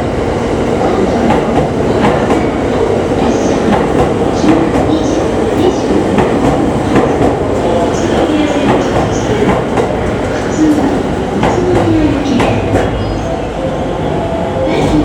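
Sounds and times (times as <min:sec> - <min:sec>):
train wheels clattering: 0:01.1 - 0:13.2.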